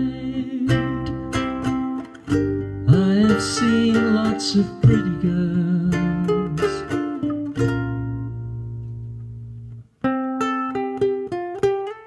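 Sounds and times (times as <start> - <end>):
picked ukulele notes: 0.0 - 12.0
ukulele strummed chord: 0.0 - 12.0.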